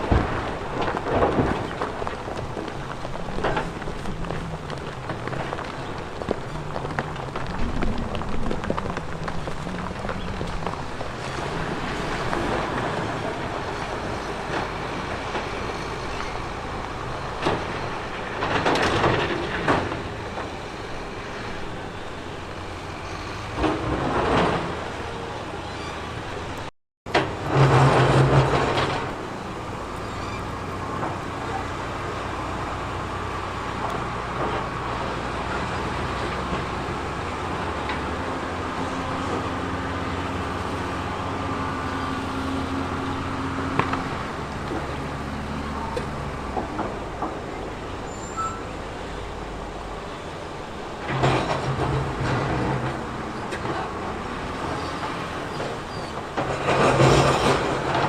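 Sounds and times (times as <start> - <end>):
heavy earthmoving machinery running: 0.0 - 58.0.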